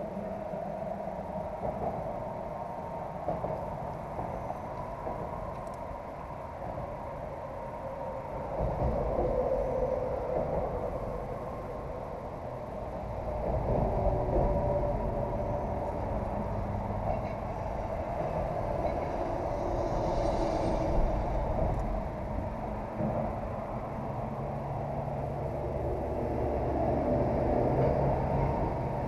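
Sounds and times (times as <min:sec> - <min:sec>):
traffic rumbling over bridge: 0:00.0 - 0:29.0.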